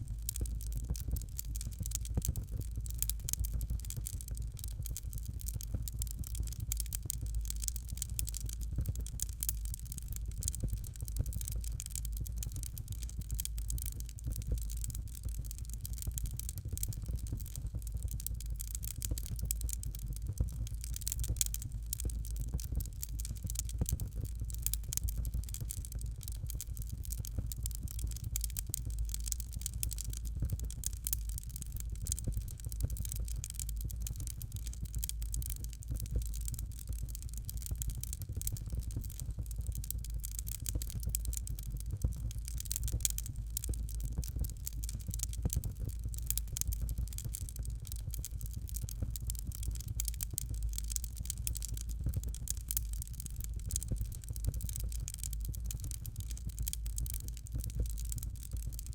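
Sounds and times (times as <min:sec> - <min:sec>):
fire crackling in fireplace: 0:00.0 - 0:58.9.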